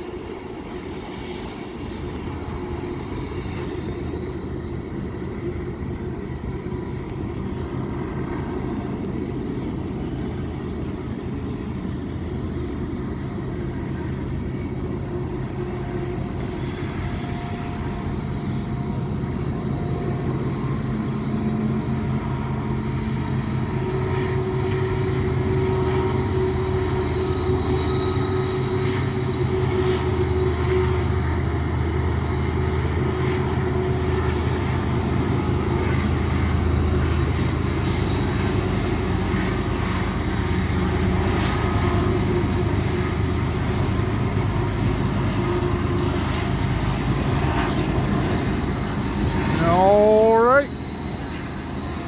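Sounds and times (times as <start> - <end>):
diesel locomotive engines droning: 0.0 - 52.0
rumble of train cars: 0.0 - 52.0
train wheels squealing: 0.0 - 52.0.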